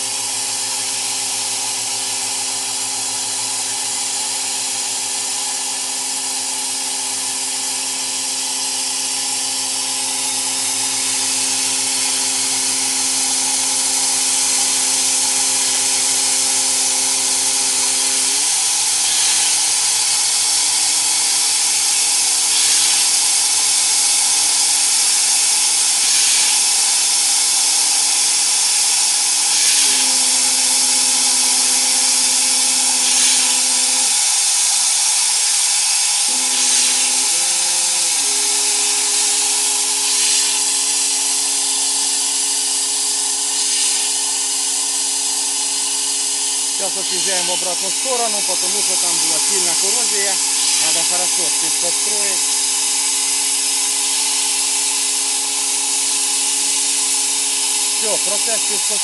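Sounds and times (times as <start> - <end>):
compressed air jet hissing: 0.0 - 59.0
motor hum: 0.0 - 59.0.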